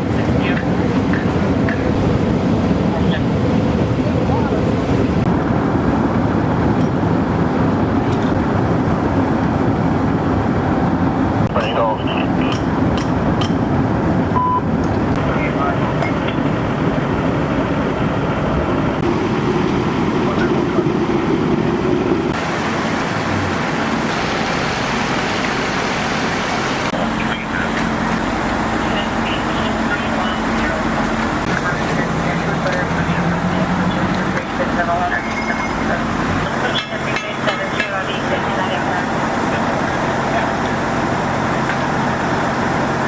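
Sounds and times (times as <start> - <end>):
water rushing from hydrant: 0.0 - 14.3, 18.9 - 43.0.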